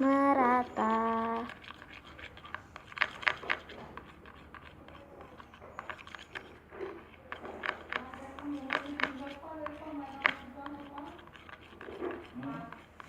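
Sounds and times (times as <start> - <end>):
stirrer scraping a bowl: 0.0 - 13.0.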